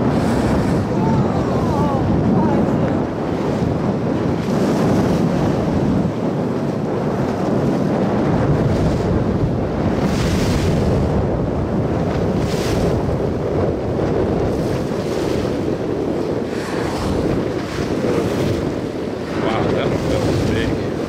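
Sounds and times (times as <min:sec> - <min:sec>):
waves rushing: 0:00.0 - 0:21.0
wind buffeting microphone: 0:00.0 - 0:21.0.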